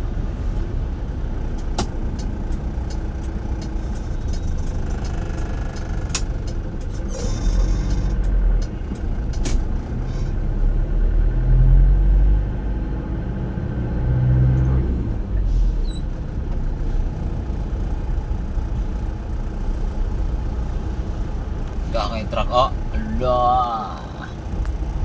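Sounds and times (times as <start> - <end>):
road and engine rumble in car: 0.0 - 25.0.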